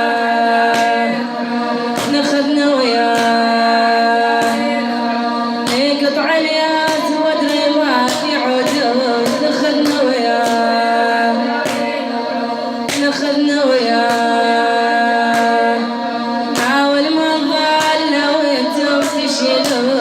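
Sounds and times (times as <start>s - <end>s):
woman singing a lament: 0.0s - 20.0s.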